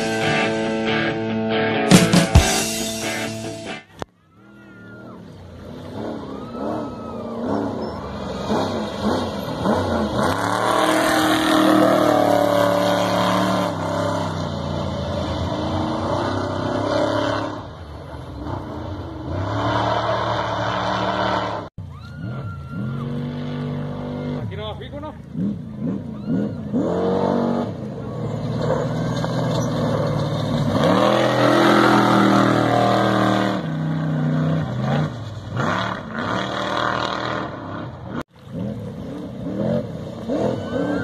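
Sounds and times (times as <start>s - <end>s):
race truck engines revving: 0.0s - 41.0s.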